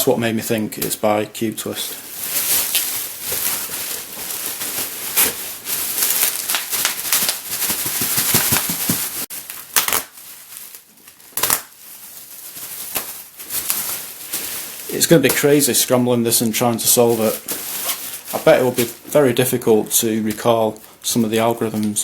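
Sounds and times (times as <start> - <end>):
packaging rustling and crinkling: 1.7 - 22.0.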